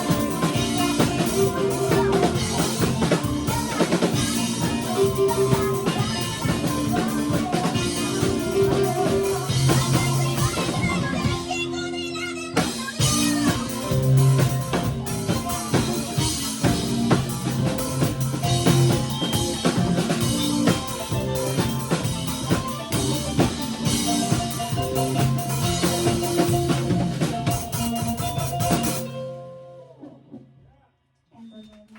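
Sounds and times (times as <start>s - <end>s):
rock band playing: 0.0s - 30.2s.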